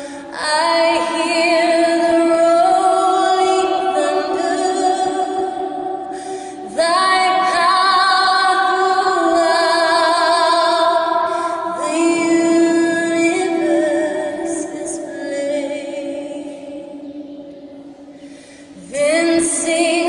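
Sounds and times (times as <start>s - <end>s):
woman singing unaccompanied: 0.0s - 6.0s, 6.6s - 17.5s, 18.8s - 20.0s.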